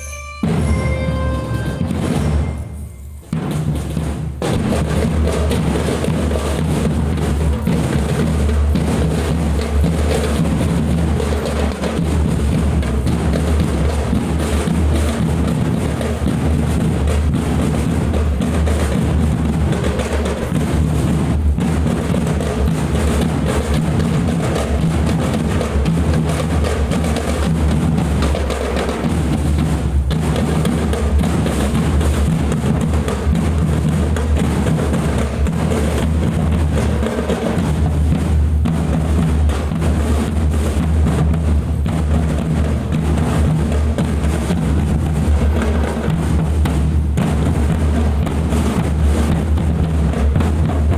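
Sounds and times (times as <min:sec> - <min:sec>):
snare drums: 0:00.0 - 0:50.9.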